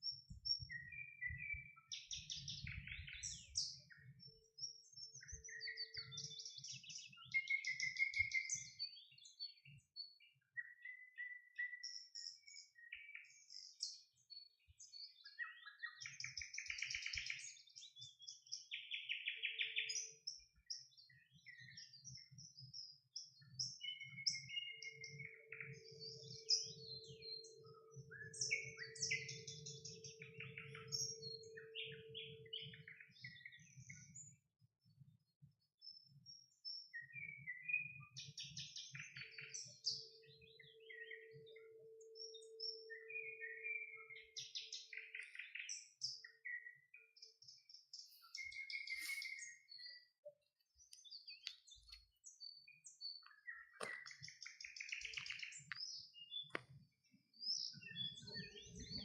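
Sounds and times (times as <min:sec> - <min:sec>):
nightingale singing: 0:00.0 - 0:34.4, 0:35.8 - 0:59.0.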